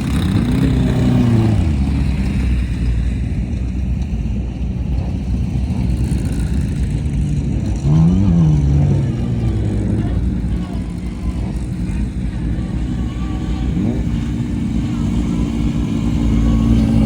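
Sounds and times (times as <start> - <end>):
engine revving: 0.0 - 17.0
race vehicle engines rumbling: 0.0 - 17.0.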